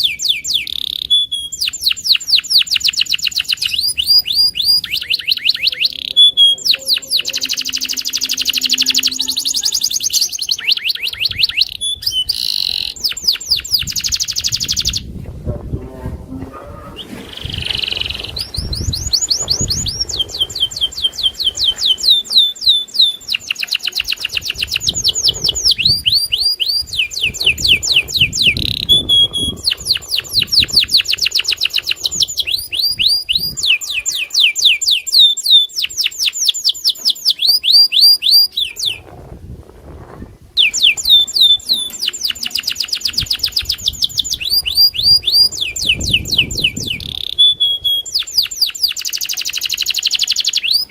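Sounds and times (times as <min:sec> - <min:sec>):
canary singing trills: 0:00.0 - 0:15.2, 0:16.3 - 0:39.1, 0:40.6 - 0:50.9.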